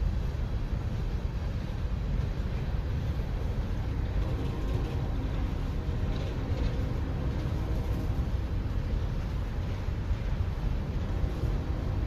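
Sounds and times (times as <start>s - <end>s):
faint engine drone: 0.0s - 12.0s
train rumbling: 0.0s - 12.0s.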